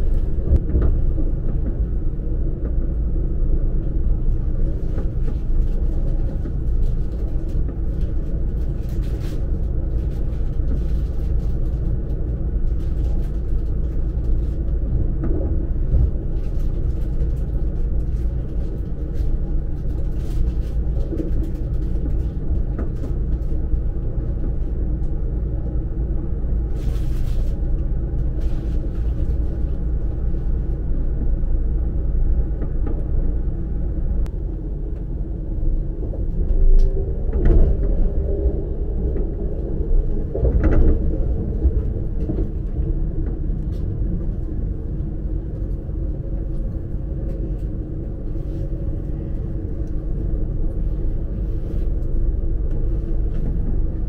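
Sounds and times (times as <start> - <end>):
faint hum: 0.0 - 54.0
train running gear rumble: 0.0 - 54.0.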